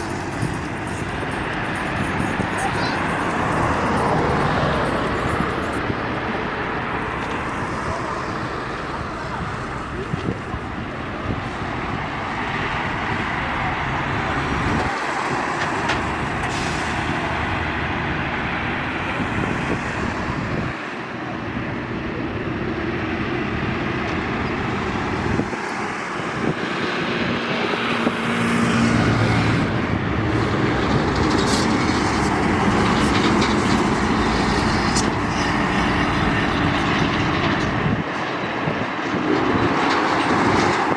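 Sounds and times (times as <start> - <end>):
highway traffic passing: 0.0 - 40.9
truck diesel engine: 0.0 - 40.9.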